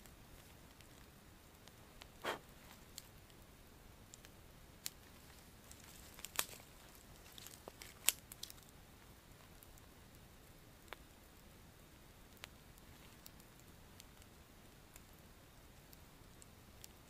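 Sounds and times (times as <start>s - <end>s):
faint clicks and crackles: 0.0s - 17.0s.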